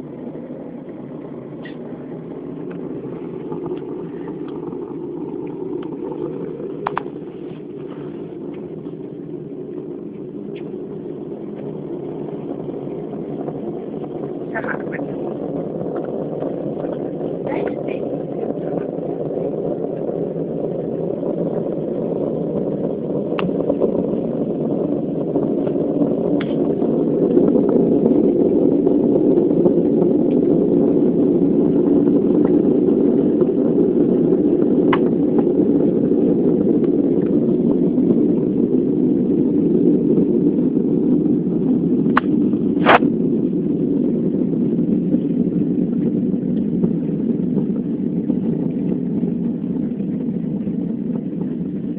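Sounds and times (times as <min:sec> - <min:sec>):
low droning tones: 0:00.0 - 0:51.9.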